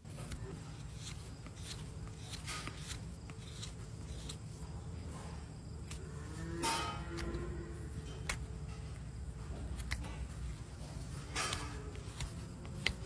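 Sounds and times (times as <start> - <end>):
knife scraping hoof: 0.0 - 13.0.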